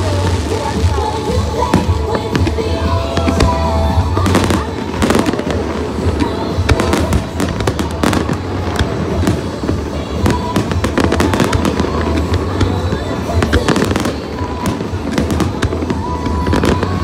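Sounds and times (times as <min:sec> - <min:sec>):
fireworks bangs and crackling: 0:00.0 - 0:17.0
music with steady bass: 0:00.0 - 0:17.0.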